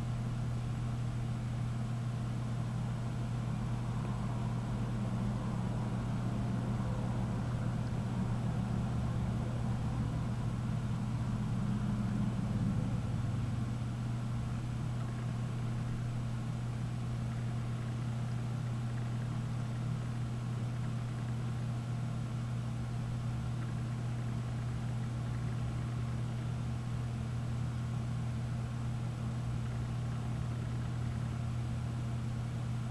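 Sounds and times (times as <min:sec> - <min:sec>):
steady low machine hum: 0:00.0 - 0:32.9.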